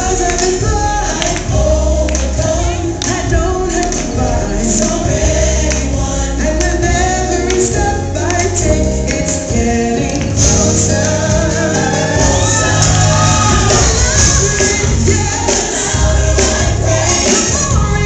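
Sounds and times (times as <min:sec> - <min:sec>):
band with steady beat: 0:00.0 - 0:18.0
choir singing gospel: 0:00.0 - 0:18.0.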